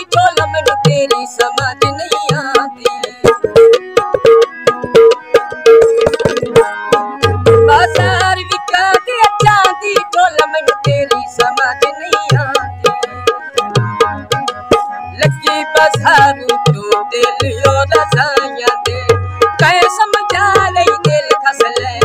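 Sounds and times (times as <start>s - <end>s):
harmonium chords: 0.0s - 22.0s
man singing: 0.0s - 22.0s
tabla strokes: 0.0s - 22.0s.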